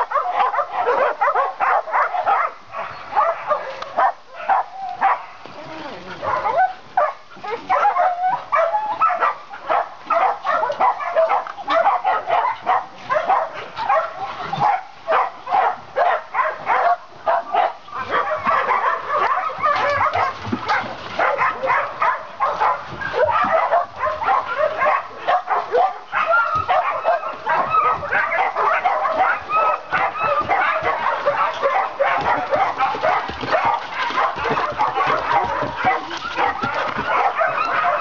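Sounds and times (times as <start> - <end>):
many dogs barking: 0.0 - 38.0.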